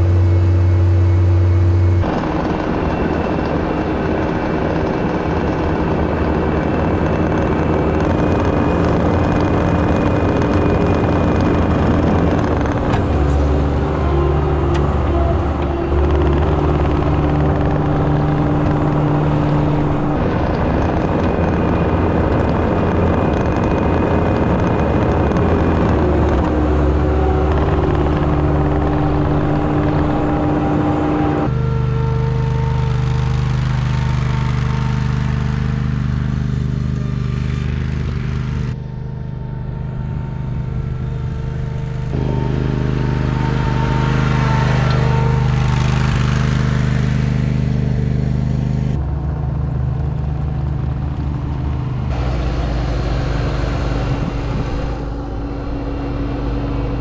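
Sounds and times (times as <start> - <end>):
diesel engine running: 0.0 - 57.0
small tractor engine running: 0.0 - 57.0.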